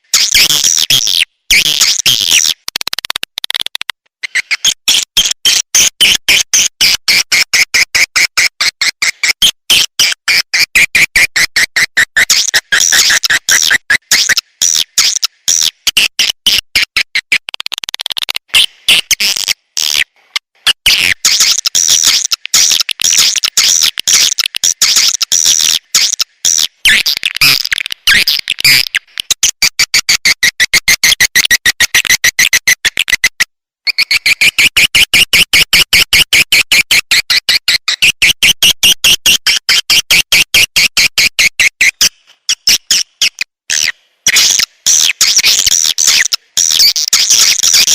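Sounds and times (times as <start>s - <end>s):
high clicky bird chirps: 0.0s - 10.8s, 11.4s - 38.4s, 40.9s - 47.9s.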